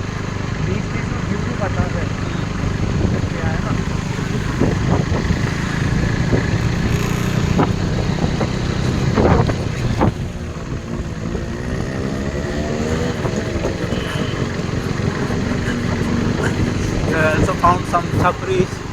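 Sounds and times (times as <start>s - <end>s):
motorcycle engine accelerating: 0.0s - 18.9s
wind rumble: 1.5s - 18.9s.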